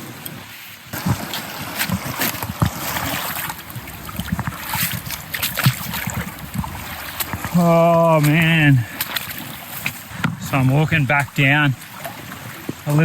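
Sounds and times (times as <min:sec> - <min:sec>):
running water rushing: 0:00.0 - 0:13.0
feet splashing in water: 0:00.9 - 0:13.0.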